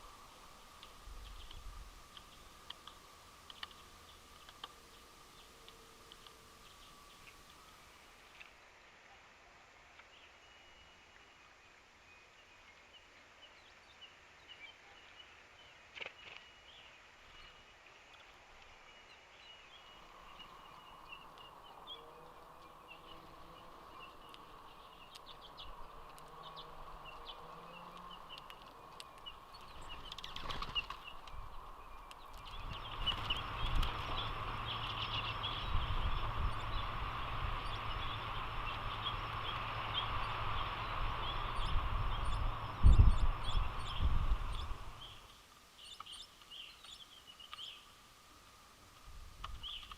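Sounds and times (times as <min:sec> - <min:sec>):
low steady hum: 0:00.0 - 0:09.6, 0:17.3 - 0:49.9
faint bird chirps: 0:00.0 - 0:48.0.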